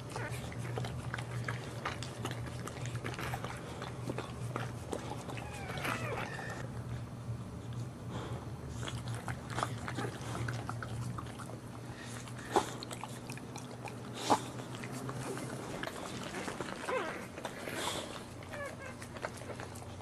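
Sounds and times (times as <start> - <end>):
dog licking puppies: 0.0 - 6.7, 8.7 - 20.0.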